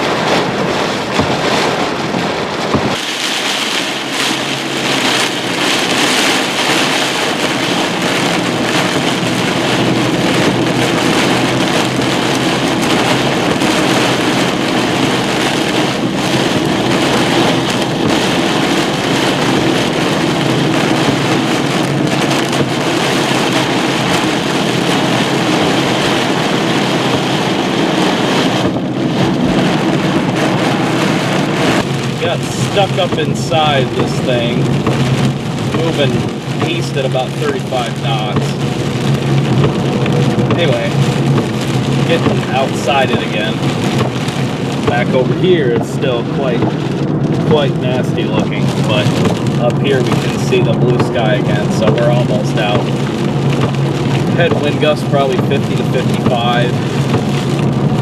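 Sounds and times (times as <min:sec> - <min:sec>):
gusty wind: 0:00.0 - 0:58.0
heavy rain on a car: 0:00.0 - 0:58.0.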